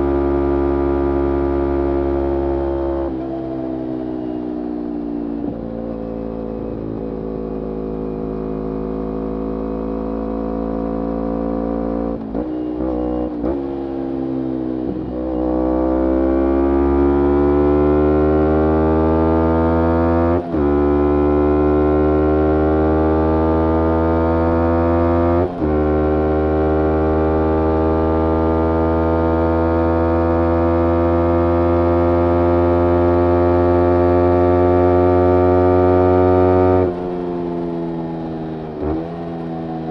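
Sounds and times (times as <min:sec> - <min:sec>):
motorcycle engine revving: 0:05.2 - 0:39.9.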